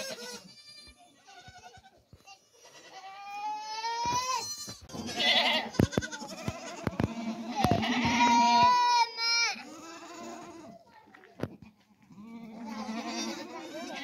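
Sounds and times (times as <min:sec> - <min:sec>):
goats bleating: 0:00.0 - 0:10.9, 0:11.6 - 0:14.0.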